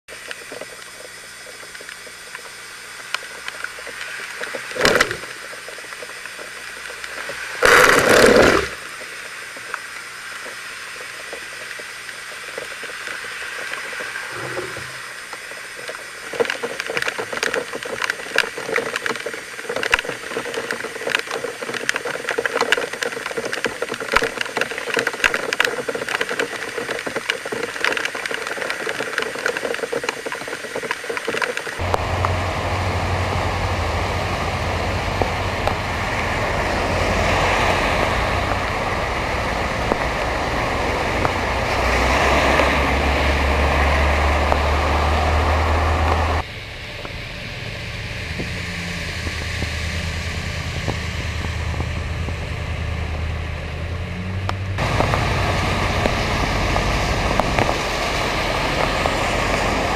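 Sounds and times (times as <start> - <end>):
hard rain pattering: 0.1 - 59.9
cars splashing through water: 11.6 - 59.9.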